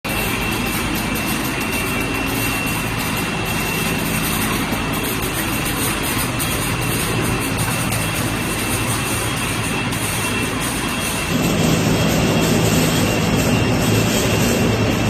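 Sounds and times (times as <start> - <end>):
high steady whine: 0.1 - 15.0
sorting machinery drone: 0.1 - 15.0
low hum: 0.3 - 15.0.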